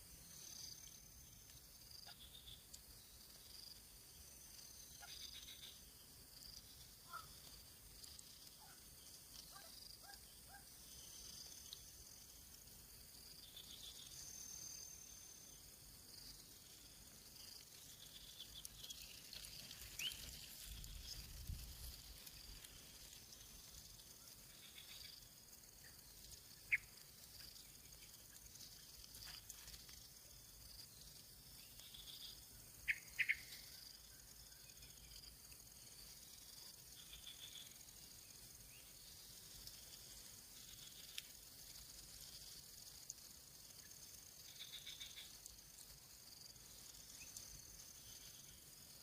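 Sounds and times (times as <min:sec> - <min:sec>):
insects humming: 0:00.0 - 0:49.0.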